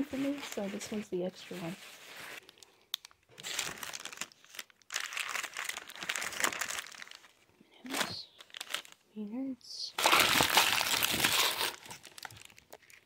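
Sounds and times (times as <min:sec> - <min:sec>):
plastic wrappers crinkling: 0:00.0 - 0:09.1, 0:09.8 - 0:13.0.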